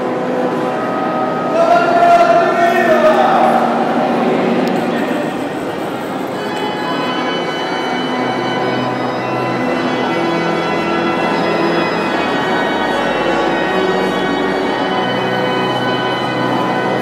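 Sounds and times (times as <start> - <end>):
church organ chords: 0.0 - 17.0
murmur of crowd: 0.0 - 17.0.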